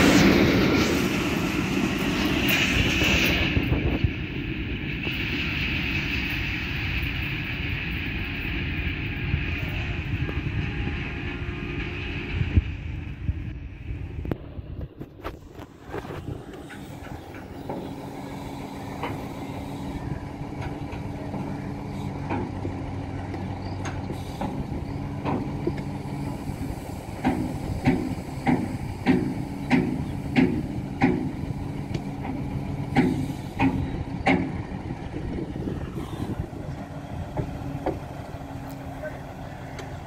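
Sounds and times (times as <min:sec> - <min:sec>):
crane diesel engine running: 0:00.0 - 0:40.0.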